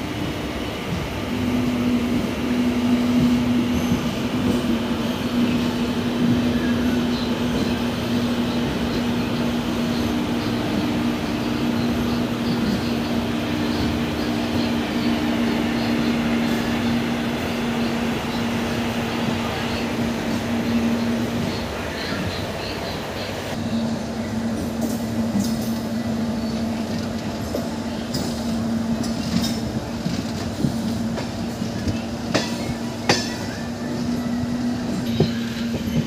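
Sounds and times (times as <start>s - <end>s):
train rail running noise: 0.0s - 36.0s.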